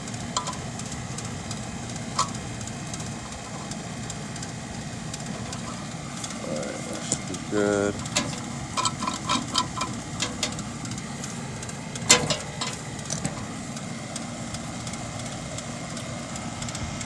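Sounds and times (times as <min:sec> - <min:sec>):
steady mechanical running noise: 0:00.0 - 0:17.0
small ringing metallic clicks: 0:00.1 - 0:16.8.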